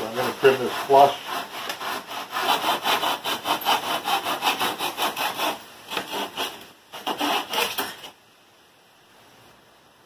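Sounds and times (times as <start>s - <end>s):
handsaw cutting wood: 0.0s - 8.2s.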